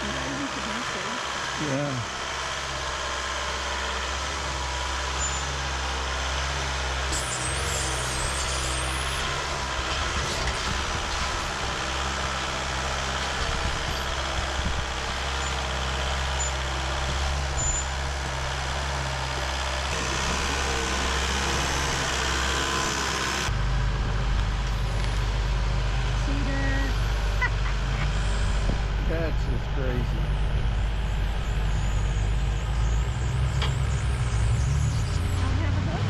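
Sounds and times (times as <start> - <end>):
engine running steadily: 0.0 - 36.0.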